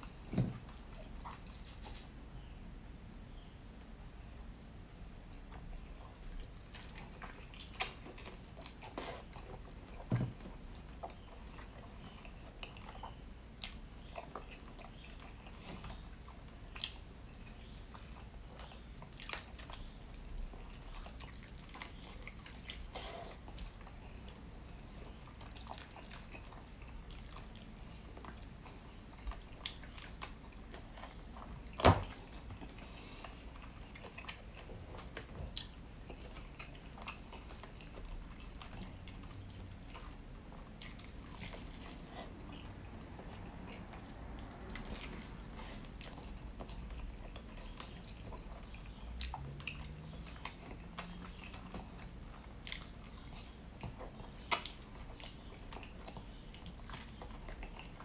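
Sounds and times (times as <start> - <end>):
chewing and biting chicken: 5.4 - 58.0.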